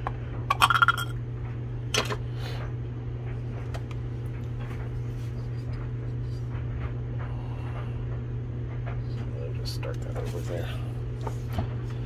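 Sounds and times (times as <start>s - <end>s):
steady low room hum: 0.0s - 12.0s.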